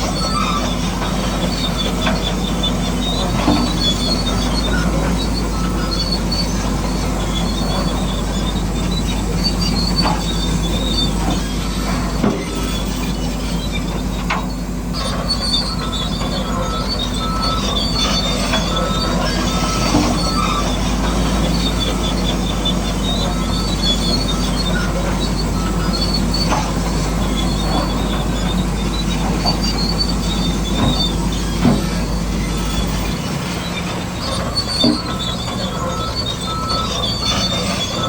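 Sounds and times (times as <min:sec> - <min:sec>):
electric motors and gears whining: 0:00.0 - 0:38.0
high metallic squeaking: 0:00.0 - 0:38.0.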